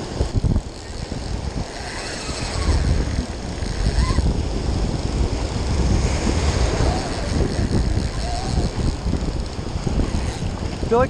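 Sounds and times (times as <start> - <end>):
breaking surf: 0.0 - 11.0
wind rumbling on microphone: 0.0 - 11.0.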